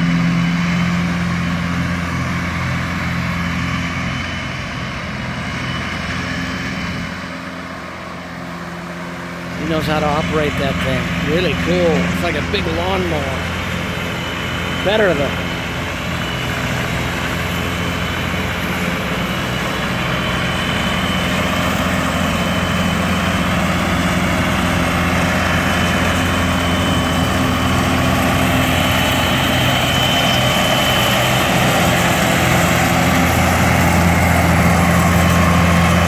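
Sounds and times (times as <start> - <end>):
mower high whine: 0.0 - 36.0
tractor diesel engine running: 0.0 - 36.0.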